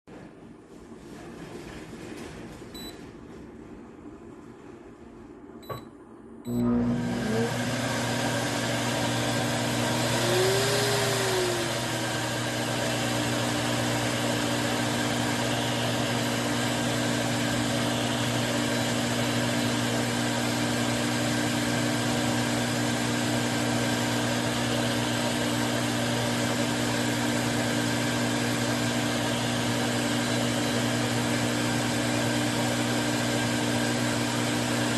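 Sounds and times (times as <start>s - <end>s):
hair dryer blower running: 6.5s - 34.9s.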